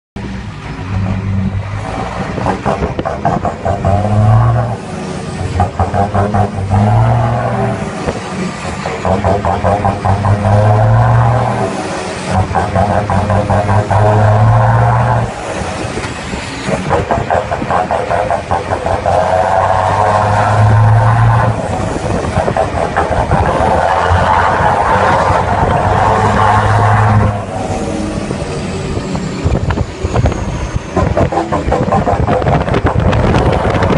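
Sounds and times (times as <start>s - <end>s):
diesel truck engine revving: 0.2s - 33.9s.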